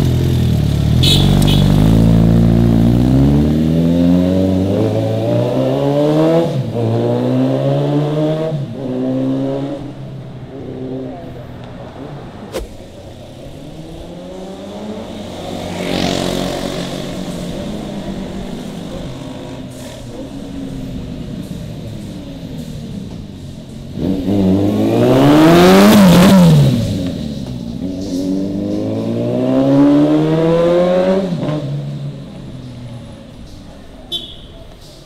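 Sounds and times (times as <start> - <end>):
motorcycle engine revving: 0.0 - 11.4, 12.6 - 32.6.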